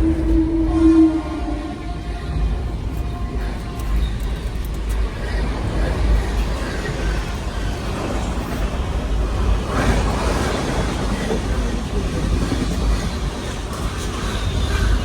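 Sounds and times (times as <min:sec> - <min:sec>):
passenger train running past: 0:00.0 - 0:15.0.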